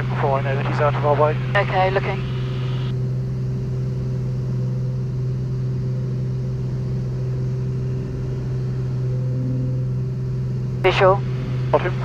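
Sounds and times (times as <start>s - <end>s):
light aircraft engine droning: 0.0s - 12.0s.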